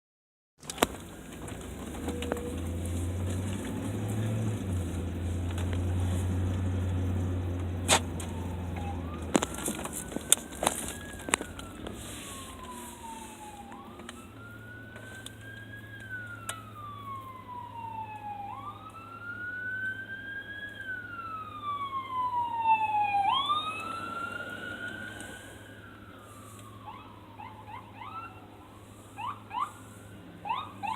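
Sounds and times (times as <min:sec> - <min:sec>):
emergency siren wailing: 0:00.7 - 0:30.9.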